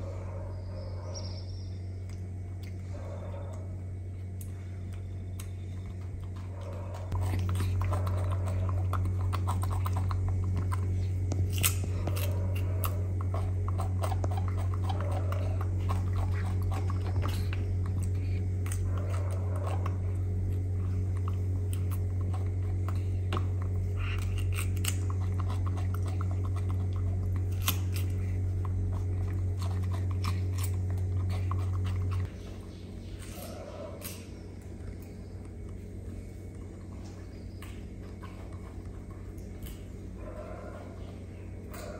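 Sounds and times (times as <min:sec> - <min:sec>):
loud steady low hum: 0:00.0 - 0:41.9
monkey chewing cucumber: 0:03.5 - 0:40.3.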